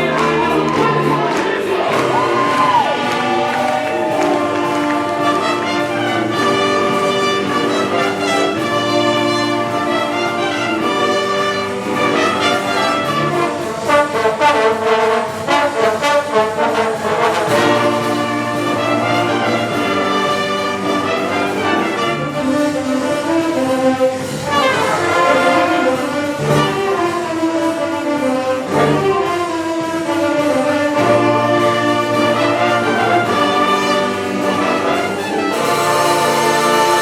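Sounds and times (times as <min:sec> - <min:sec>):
wind band playing: 0:00.0 - 0:37.0.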